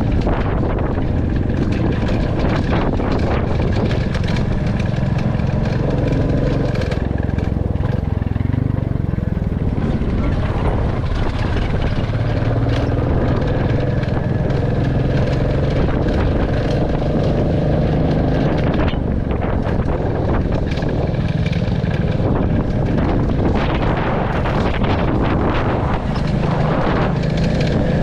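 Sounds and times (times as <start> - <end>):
motorcycle engine running: 0.0 - 28.0
wind noise on microphone: 0.0 - 28.0.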